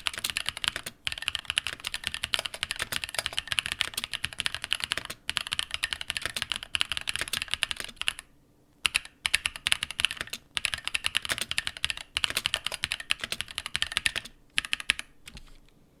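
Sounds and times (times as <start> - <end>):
fast typing on mechanical keyboard: 0.0 - 15.4.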